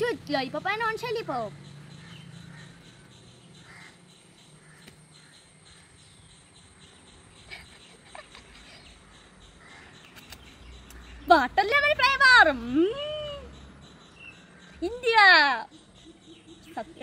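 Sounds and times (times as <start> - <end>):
insects: 0.0 - 17.0
faint bird calls: 0.6 - 17.0.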